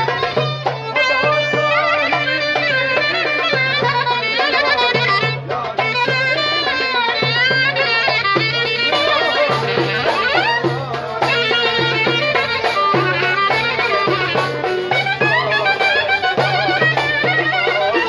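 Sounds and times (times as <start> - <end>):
fast ornamented melody: 0.0 - 18.0.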